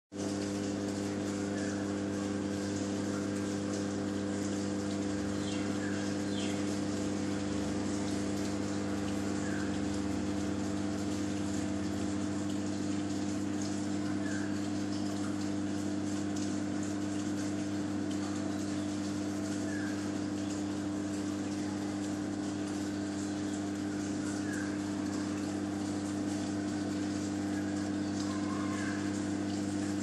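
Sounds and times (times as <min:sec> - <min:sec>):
aquarium pump humming: 0:00.1 - 0:30.0
moving water: 0:00.1 - 0:30.0.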